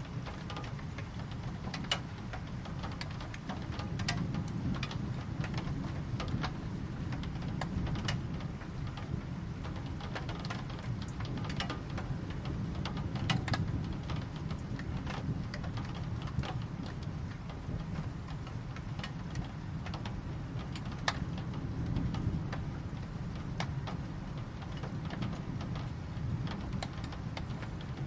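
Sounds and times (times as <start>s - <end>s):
raindrops tapping on hard surface: 0.0s - 28.0s.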